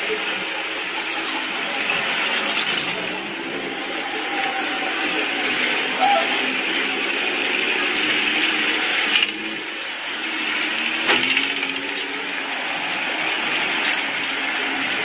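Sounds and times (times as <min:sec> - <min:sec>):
car engine and exhaust running: 0:00.0 - 0:15.0.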